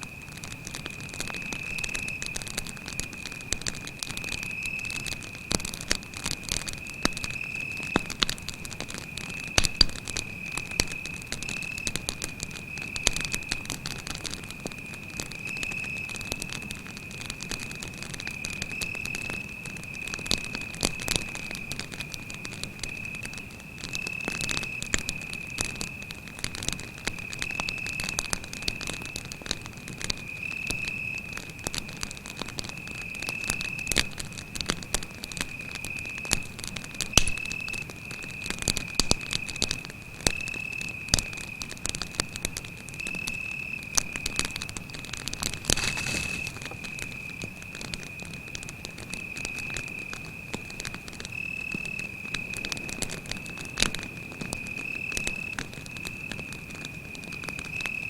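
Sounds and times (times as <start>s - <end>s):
campfire crackling and popping: 0.0s - 58.0s
cricket trill: 0.1s - 5.5s, 8.9s - 29.4s, 34.7s - 58.0s.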